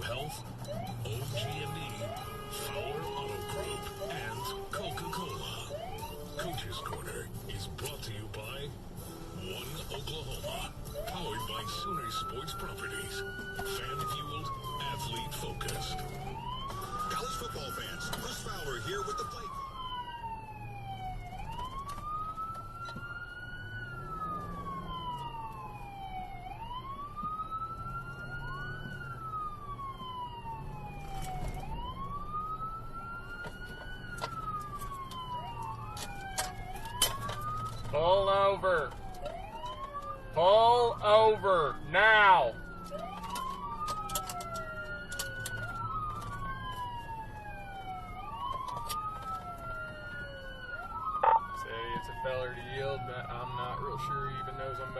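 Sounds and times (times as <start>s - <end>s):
low vehicle hum: 0.0s - 41.0s, 42.0s - 54.9s
police siren wailing: 0.0s - 54.9s.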